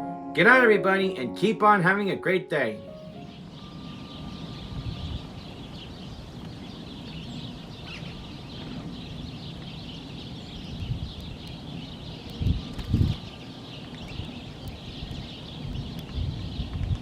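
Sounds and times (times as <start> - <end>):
flock of birds chirping: 2.9 - 17.0.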